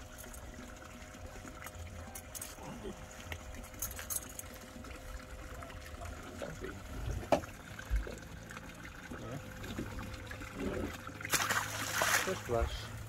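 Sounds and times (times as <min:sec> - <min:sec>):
faint steady hum: 0:00.0 - 0:13.0
water lapping around boat: 0:00.0 - 0:13.0.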